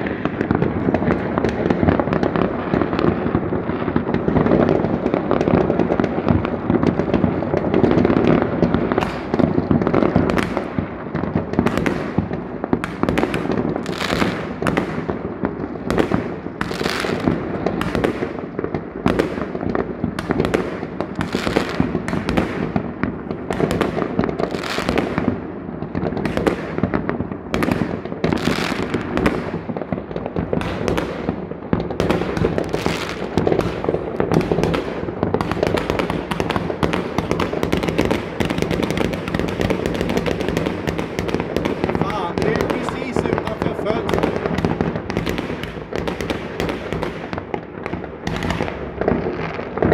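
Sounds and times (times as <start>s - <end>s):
fireworks crackling and popping: 0.0s - 49.9s
fireworks sharp bangs: 0.0s - 49.9s.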